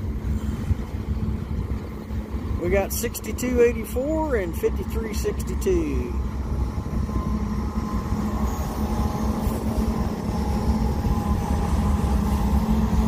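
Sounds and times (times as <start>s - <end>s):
diesel locomotive engine hum: 0.0s - 13.0s
train wheels rumbling on rail: 0.0s - 13.0s.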